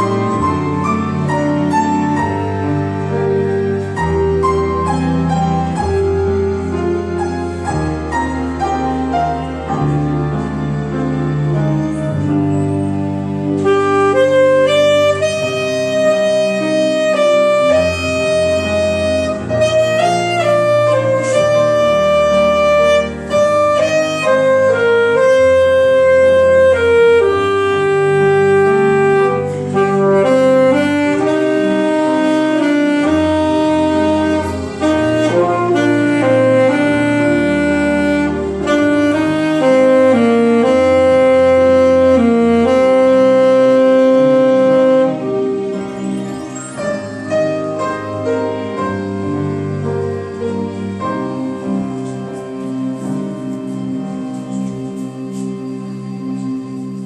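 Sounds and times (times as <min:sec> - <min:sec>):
saxophone melody: 0:00.0 - 0:57.0
sustained low accompaniment: 0:00.0 - 0:57.0.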